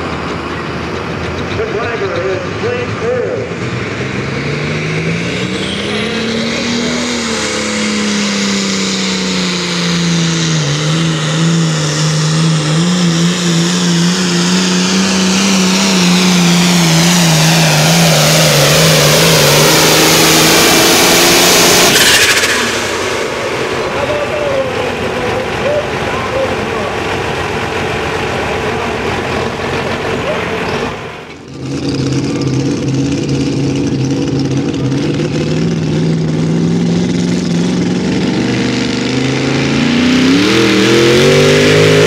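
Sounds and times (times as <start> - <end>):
engine at full throttle: 0.0 - 42.0.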